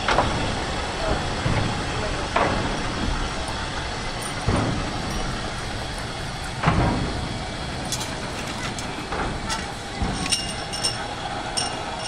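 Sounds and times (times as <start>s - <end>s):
turntable rumbling: 0.0s - 12.0s.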